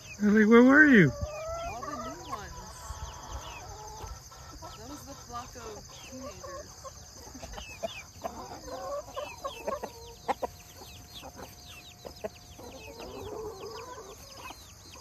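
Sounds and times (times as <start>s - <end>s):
chickens clucking: 0.0s - 15.0s
chicks peeping: 0.0s - 15.0s.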